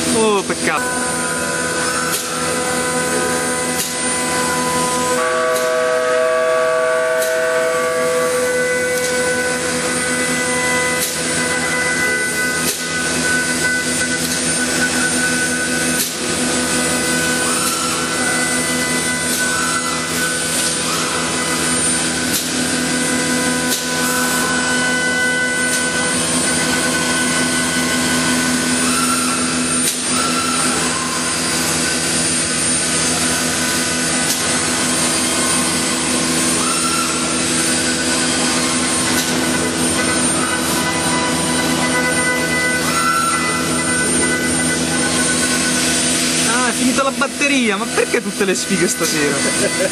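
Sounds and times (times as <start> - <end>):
high whining tones: 0.0 - 49.9
woodworking machine running: 0.0 - 49.9.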